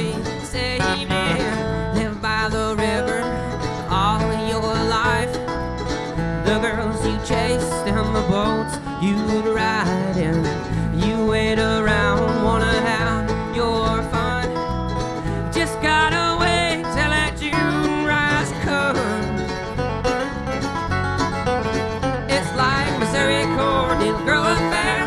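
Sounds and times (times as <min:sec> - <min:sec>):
acoustic band playing bluegrass: 0:00.0 - 0:25.0.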